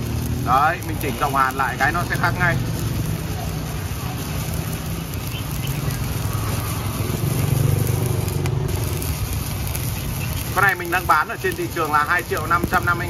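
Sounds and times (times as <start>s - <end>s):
welding arc crackling and hissing: 0.0s - 13.0s.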